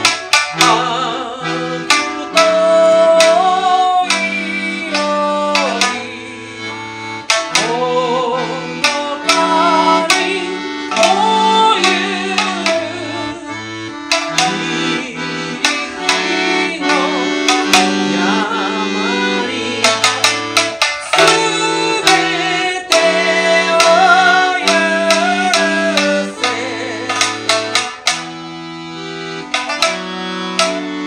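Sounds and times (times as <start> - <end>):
accordion chords: 0.0 - 31.0
hand percussion strikes: 0.0 - 31.0
sliding melody: 0.0 - 31.0.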